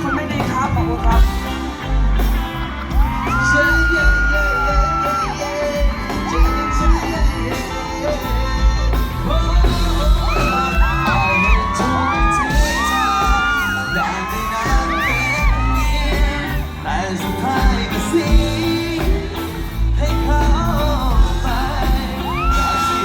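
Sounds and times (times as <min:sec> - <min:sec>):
crowd yelling: 0:00.0 - 0:23.0
live band music with heavy bass: 0:00.0 - 0:23.0.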